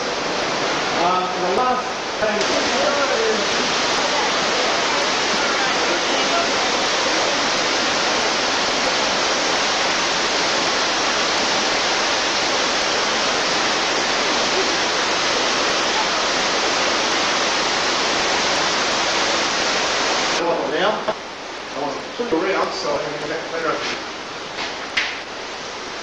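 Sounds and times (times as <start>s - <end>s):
steady rushing hiss: 0.0s - 26.0s.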